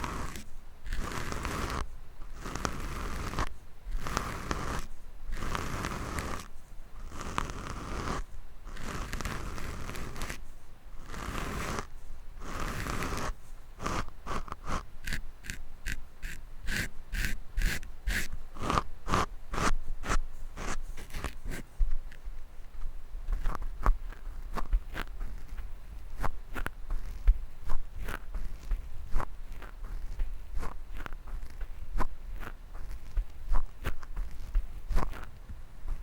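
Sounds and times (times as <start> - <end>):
scratching on microphone: 0.0 - 36.0.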